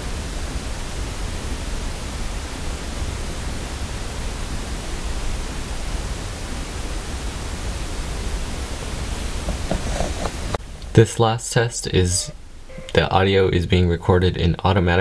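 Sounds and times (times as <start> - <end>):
microphone hiss: 0.0 - 15.0.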